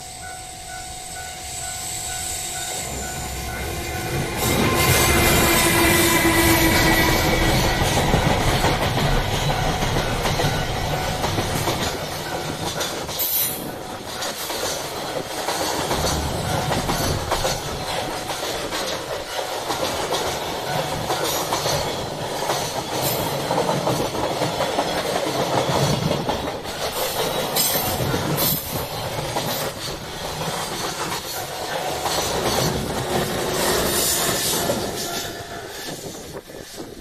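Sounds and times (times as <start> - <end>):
wheels clacking over rail joints: 2.9 - 37.0.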